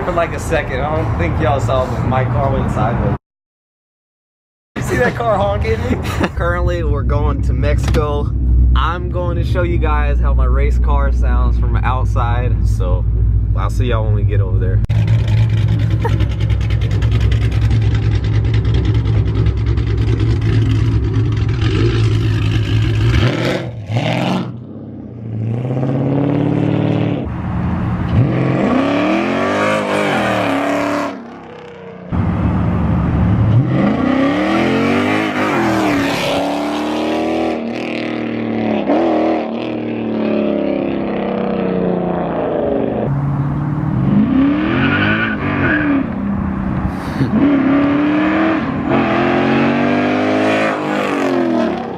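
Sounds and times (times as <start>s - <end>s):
car exhaust accelerating: 4.8s - 51.9s.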